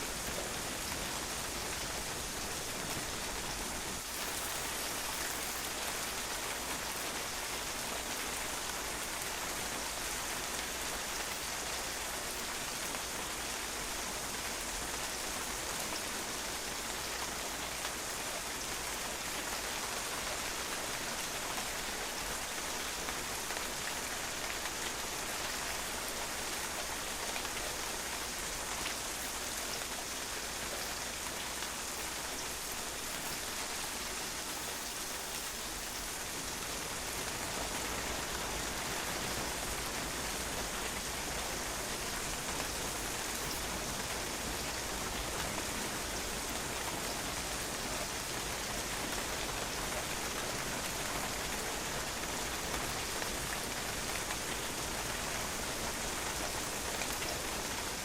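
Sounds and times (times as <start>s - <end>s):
rain on a patio: 0.0s - 58.0s.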